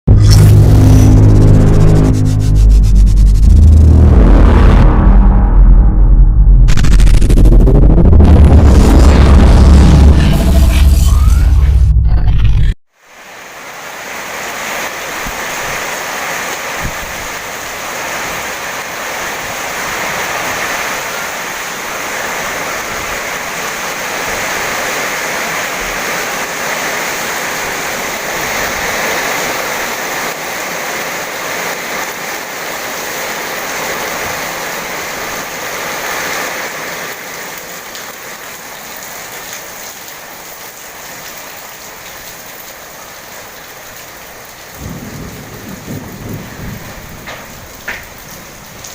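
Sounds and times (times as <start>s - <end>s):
heavy rain pouring: 0.1s - 5.8s, 6.6s - 12.0s, 12.9s - 48.9s.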